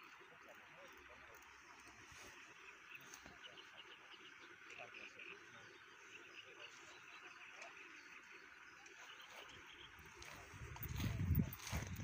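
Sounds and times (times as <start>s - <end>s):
soft high chirping calls: 0.0s - 12.0s.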